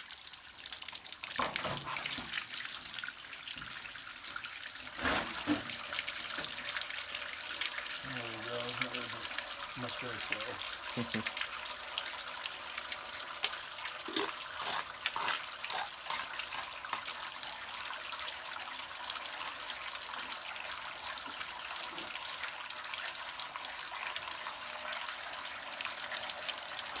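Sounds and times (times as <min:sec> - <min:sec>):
water draining from tank: 0:00.0 - 0:27.0.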